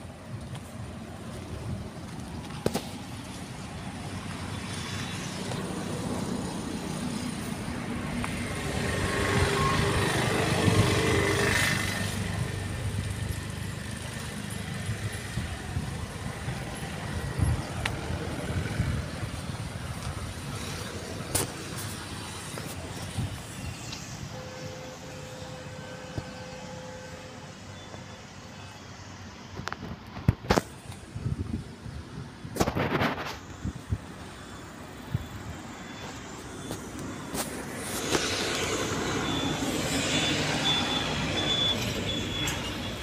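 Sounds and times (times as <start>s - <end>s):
engine low rumble: 0.0s - 43.0s.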